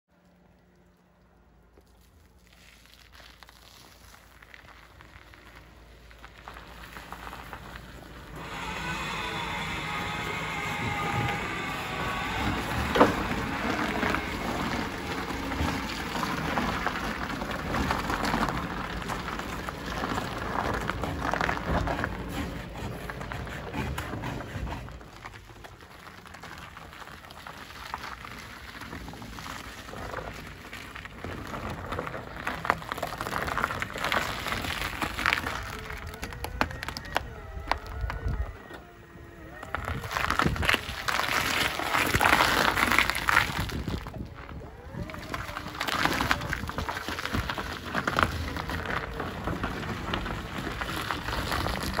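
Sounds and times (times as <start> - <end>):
snow and ice crunching under tyres: 1.6 - 52.0.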